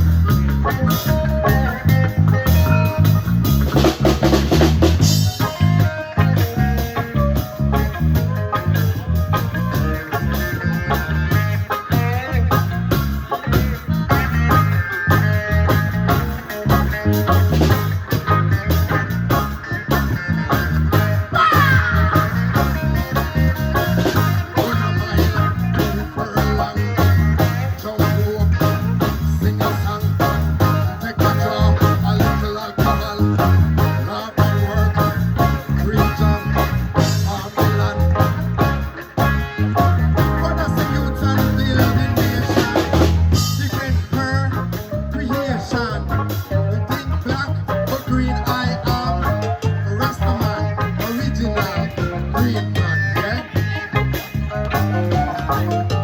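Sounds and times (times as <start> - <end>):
bass line: 0.0 - 56.0
drum kit beat: 0.0 - 56.0
guitar: 0.0 - 56.0
live band playing: 0.0 - 56.0.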